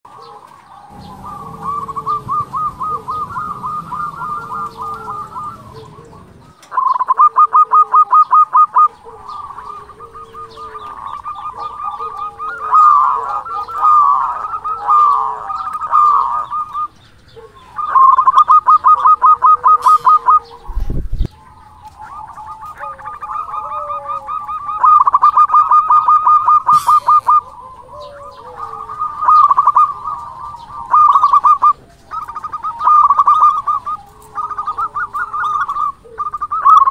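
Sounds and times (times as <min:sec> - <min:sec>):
dove cooing: 0:00.1 - 0:36.9.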